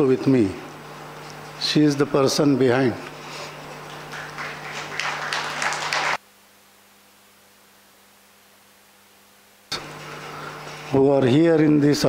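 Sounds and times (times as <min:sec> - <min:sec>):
sound system electrical hum: 0:00.0 - 0:12.0.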